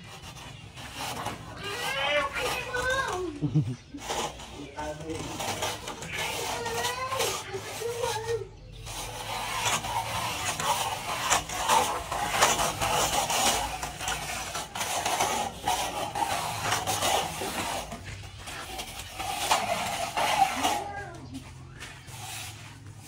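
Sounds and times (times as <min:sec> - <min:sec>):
straightedge scraping wet render: 0:00.0 - 0:23.0.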